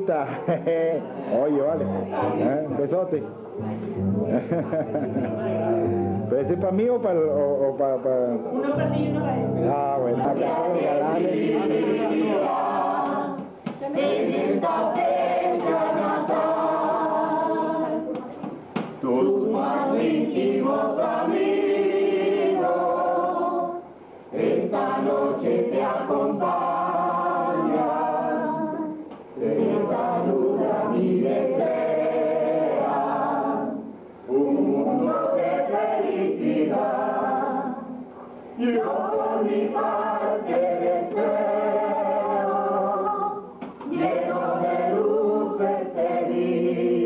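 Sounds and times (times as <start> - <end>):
group singing: 1.1 - 7.8, 8.6 - 18.4, 19.0 - 47.0.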